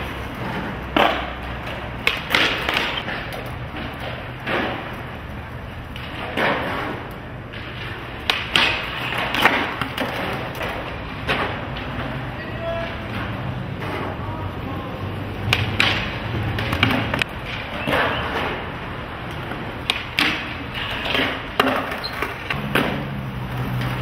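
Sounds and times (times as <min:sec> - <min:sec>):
skateboard wheels rolling on concrete: 0:00.0 - 0:24.0
skateboards popping and landing: 0:00.0 - 0:24.0.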